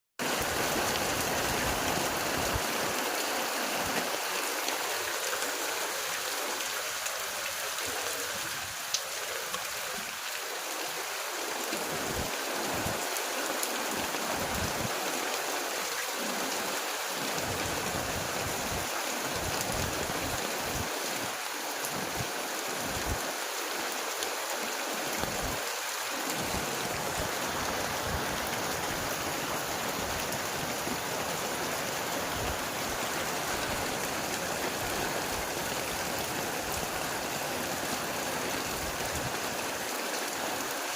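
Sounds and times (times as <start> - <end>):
steady rain falling: 0.2 - 40.9.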